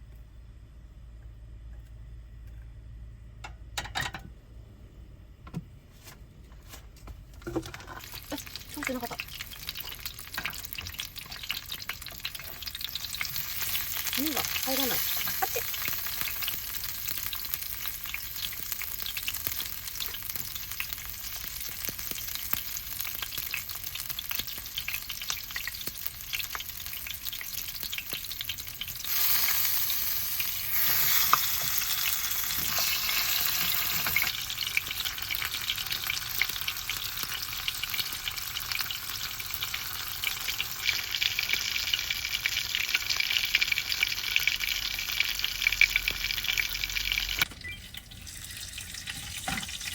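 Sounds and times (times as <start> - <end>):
chicken sizzling in a pan: 7.6 - 47.5, 48.1 - 49.9.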